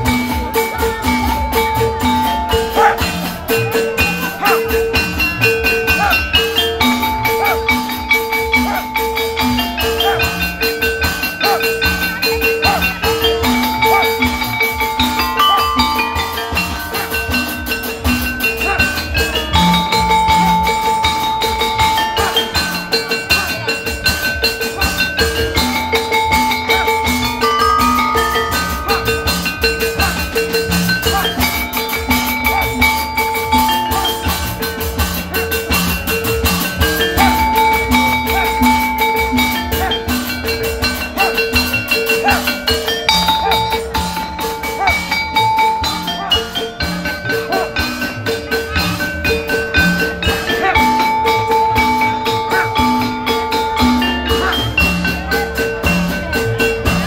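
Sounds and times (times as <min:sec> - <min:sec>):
mallet percussion melody: 0:00.0 - 0:57.0
steady drum beat: 0:00.0 - 0:57.0.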